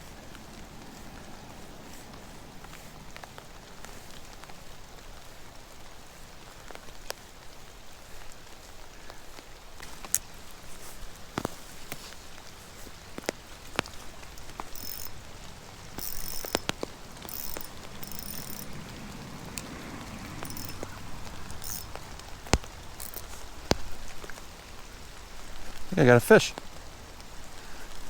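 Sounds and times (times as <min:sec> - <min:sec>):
rain falling on water: 0:00.0 - 0:28.0.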